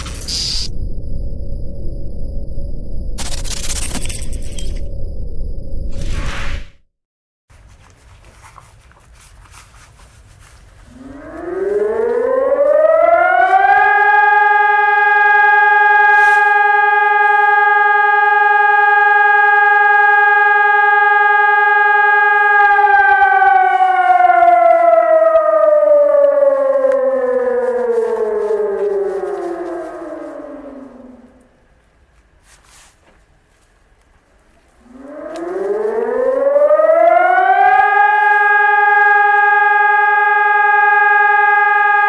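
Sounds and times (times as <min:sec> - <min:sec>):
siren wailing: 0:00.0 - 0:06.6, 0:10.9 - 0:31.6, 0:34.6 - 0:42.0.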